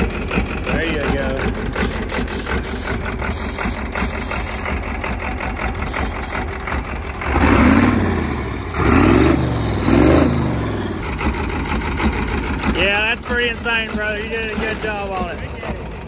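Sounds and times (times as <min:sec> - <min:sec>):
diesel tractor engine revving: 0:00.0 - 0:16.0.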